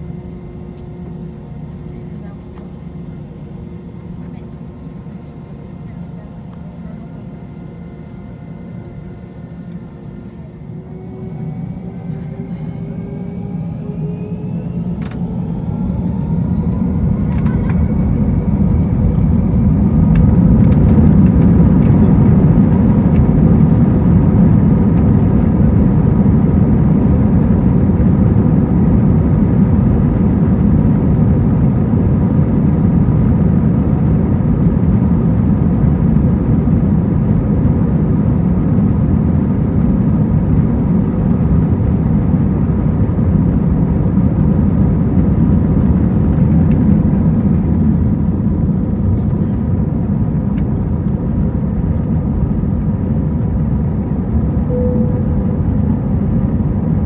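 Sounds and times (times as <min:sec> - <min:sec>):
low rumble of take-off roll: 0:00.0 - 0:57.0
jet engines roaring: 0:10.5 - 0:57.0.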